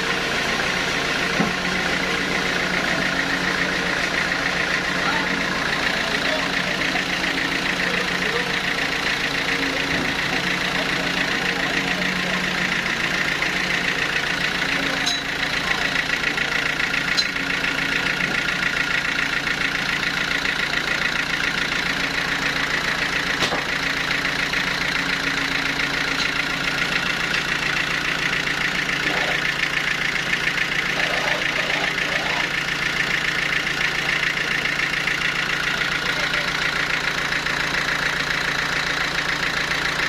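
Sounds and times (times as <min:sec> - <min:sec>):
sawmill machinery running: 0:00.0 - 0:40.0.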